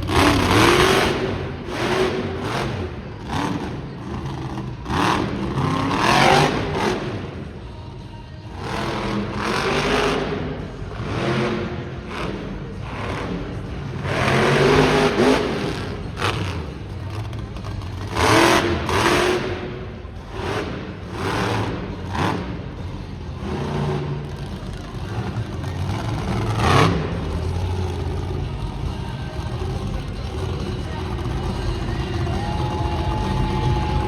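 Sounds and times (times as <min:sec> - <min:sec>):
truck engine revving hard: 0:00.0 - 0:07.5, 0:08.5 - 0:34.0.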